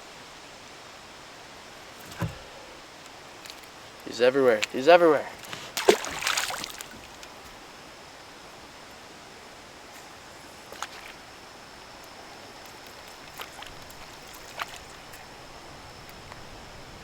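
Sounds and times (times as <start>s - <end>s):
water washing around boat: 1.7s - 16.6s.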